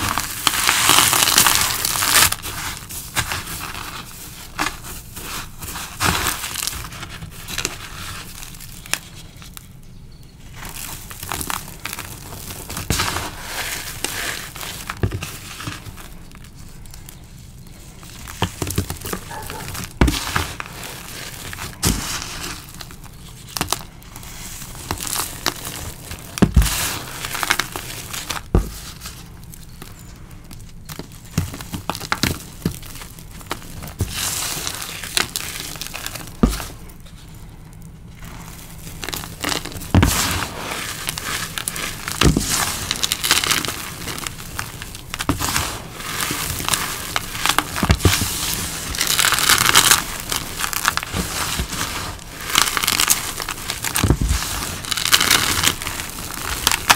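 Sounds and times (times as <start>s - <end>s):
hands crumbling powdery chalk: 0.0s - 56.9s.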